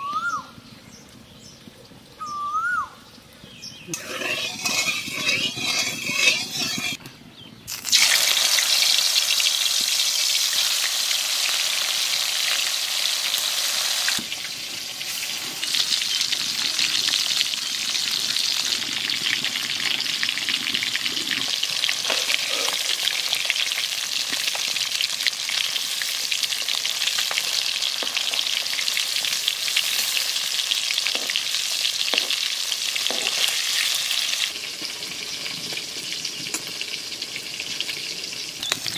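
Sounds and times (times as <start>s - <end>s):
fish sizzling in hot oil: 7.7s - 38.9s.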